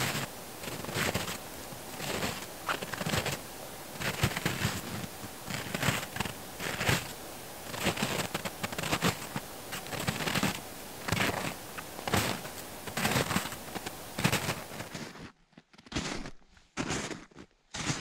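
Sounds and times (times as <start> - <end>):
footsteps crunching through snow: 0.0 - 18.0.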